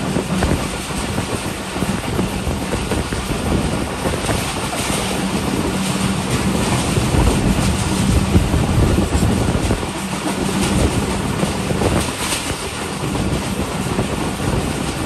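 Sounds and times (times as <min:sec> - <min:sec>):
steady low hum: 0:00.0 - 0:15.0
train wheels rumbling on track: 0:00.0 - 0:15.0
wind rushing over microphone: 0:00.0 - 0:15.0.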